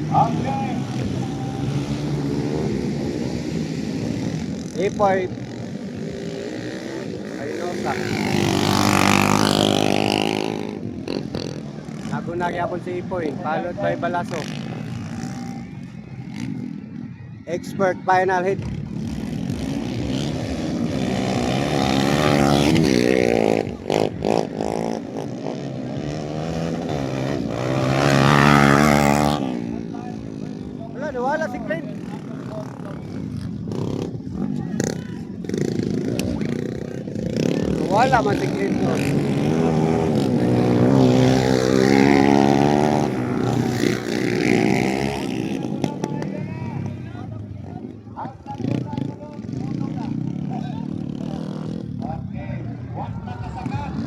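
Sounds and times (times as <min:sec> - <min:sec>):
motorcycle engines revving hard: 0:00.0 - 0:54.0.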